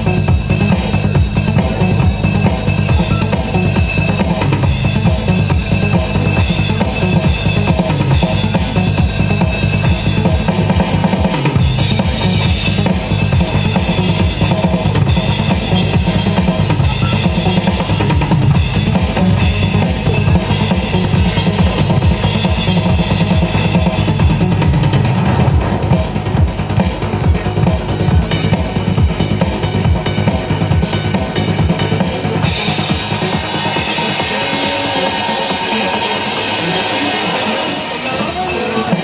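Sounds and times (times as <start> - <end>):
drum kit beat: 0.0 - 39.0
live band music: 0.0 - 39.0.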